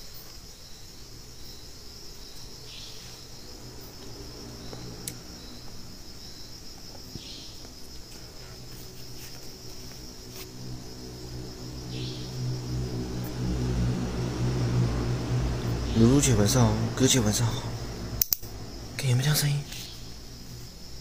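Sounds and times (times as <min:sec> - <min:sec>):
crickets chirring: 0:00.0 - 0:21.0
low engine-like hum: 0:00.8 - 0:21.0.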